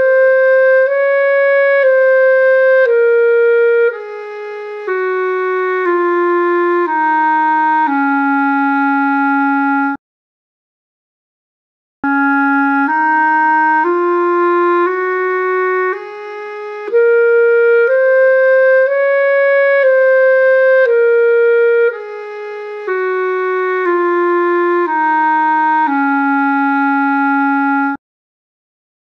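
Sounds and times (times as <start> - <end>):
clarinet playing a scale: 0.0 - 10.0, 12.0 - 28.0.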